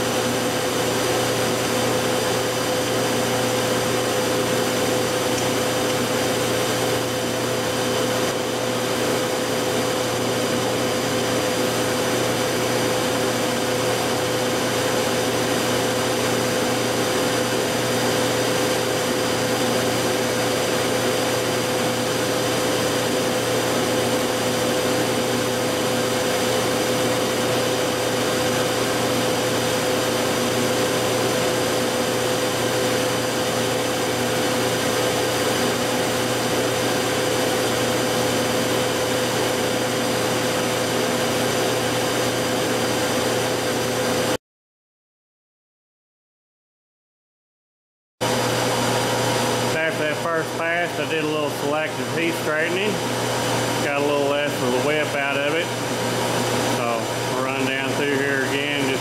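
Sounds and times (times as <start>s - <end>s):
lathe whirring and whining: 0.0s - 44.4s, 48.2s - 59.0s.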